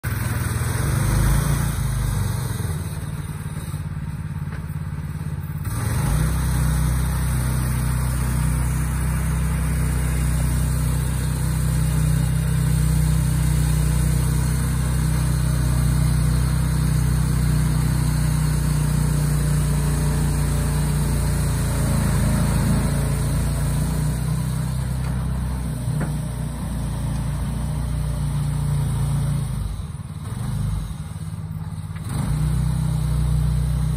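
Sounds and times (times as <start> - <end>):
pickup truck engine running: 0.0 - 33.9.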